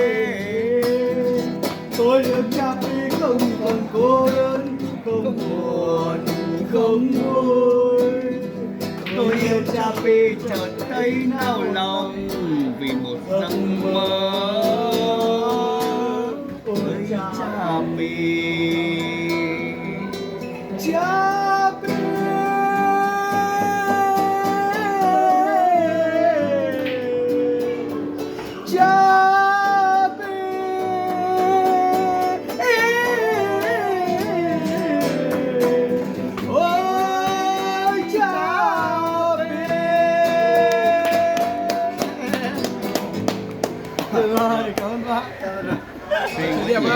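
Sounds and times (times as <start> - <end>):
wordless sung vocalise: 0.0 - 42.4.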